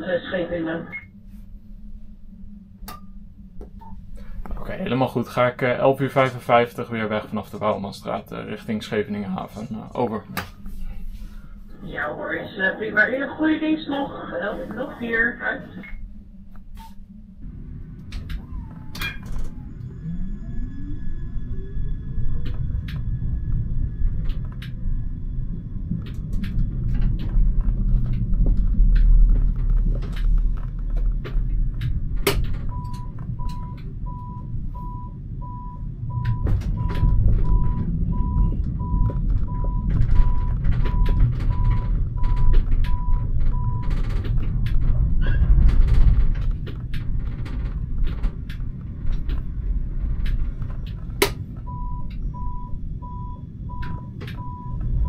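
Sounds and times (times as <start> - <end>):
tram motor whine: 0.0 - 55.0
tram rumbling: 0.0 - 55.0.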